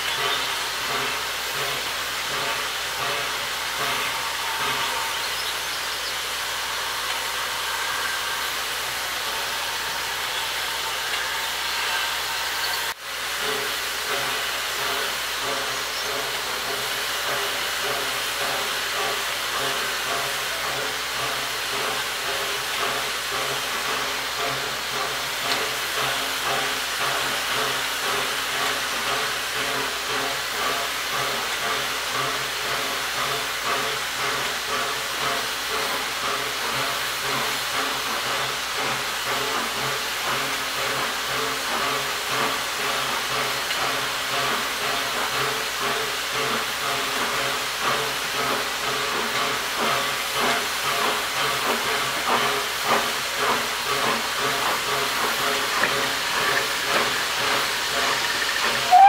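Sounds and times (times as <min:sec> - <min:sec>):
locomotive exhaust chuffs: 0:00.0 - 0:59.0
steam hissing: 0:00.0 - 0:59.0.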